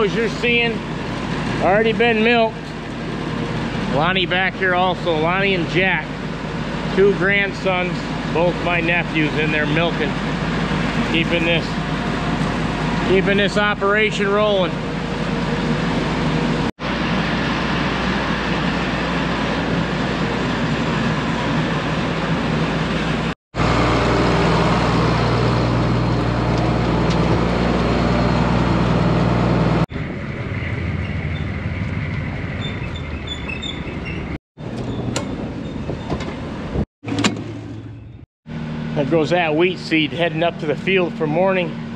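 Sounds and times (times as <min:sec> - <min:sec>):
farm vehicle engines running: 0:00.0 - 0:41.9.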